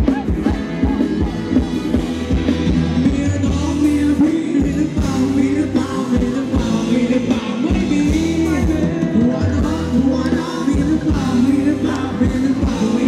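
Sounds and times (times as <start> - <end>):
live band dance music: 0.0 - 13.0
person singing: 0.0 - 13.0.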